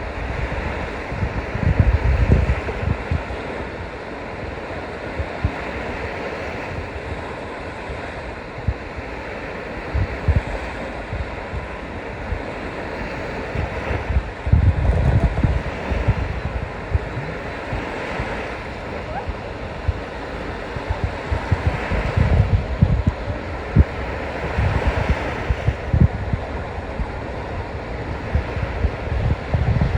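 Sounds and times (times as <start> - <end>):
waves washing: 0.0 - 29.9
wind buffeting microphone: 0.0 - 29.9.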